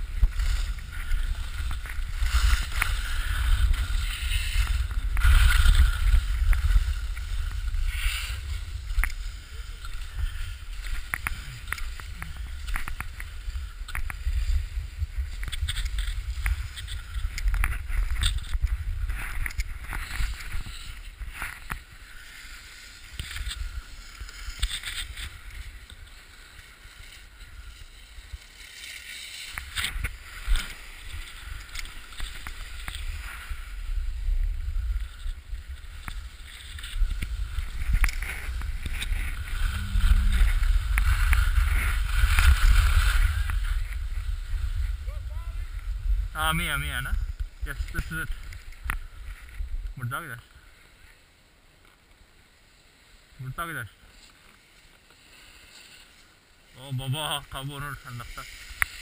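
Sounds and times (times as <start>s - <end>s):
wind rumbling on microphone: 0.0s - 51.0s
skis carving over packed snow: 0.0s - 59.0s.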